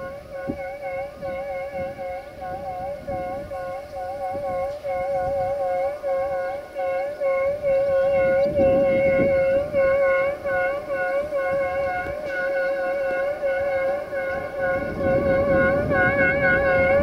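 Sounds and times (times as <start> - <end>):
two-tone locomotive air horn: 0.0 - 17.0.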